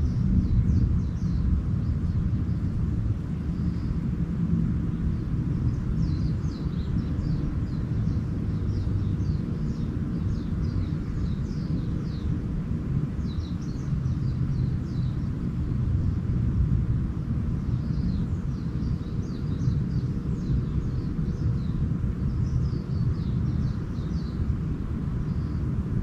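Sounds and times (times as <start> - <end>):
small birds twittering: 0.0 - 26.0
steady low rumble: 0.0 - 26.0.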